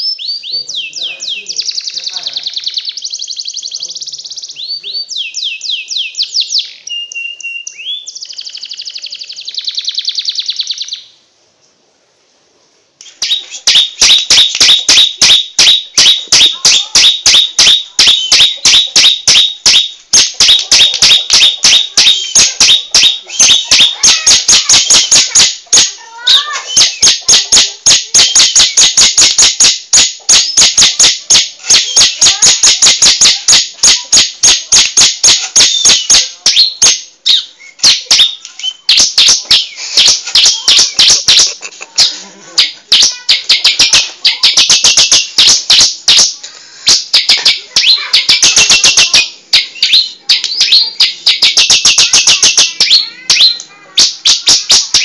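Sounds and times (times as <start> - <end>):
fast series of sharp chirps: 0.0 - 11.2, 13.0 - 55.0
songbird chirping and trilling: 0.0 - 11.8, 13.0 - 55.0.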